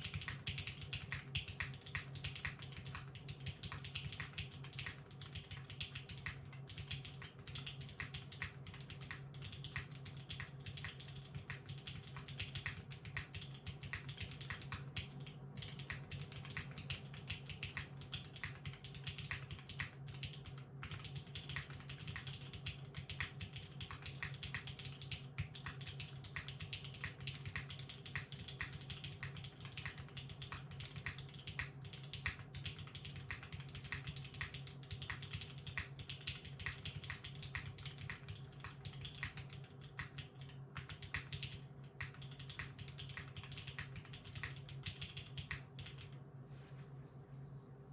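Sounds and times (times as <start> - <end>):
typing on mechanical keyboard: 0.0 - 46.2.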